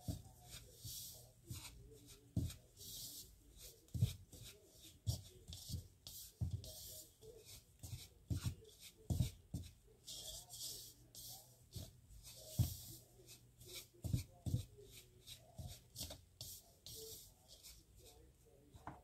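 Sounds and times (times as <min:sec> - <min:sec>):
dough stirred in plastic bowl: 0:00.0 - 0:19.0.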